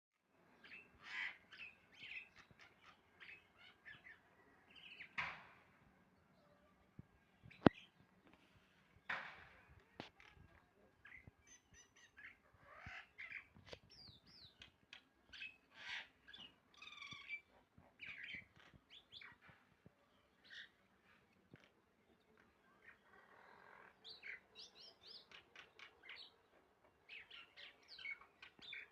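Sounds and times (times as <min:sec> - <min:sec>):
birds chirping: 0:00.5 - 0:28.9.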